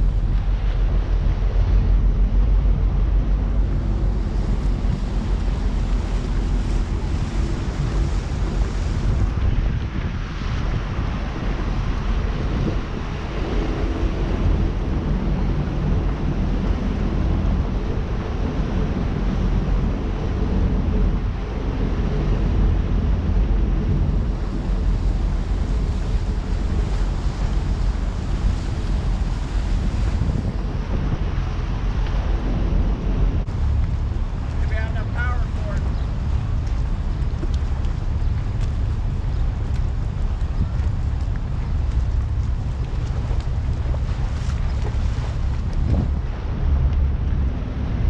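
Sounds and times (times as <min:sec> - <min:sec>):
boat engine drone: 0:00.0 - 0:48.0
wind buffeting microphone: 0:00.0 - 0:48.0.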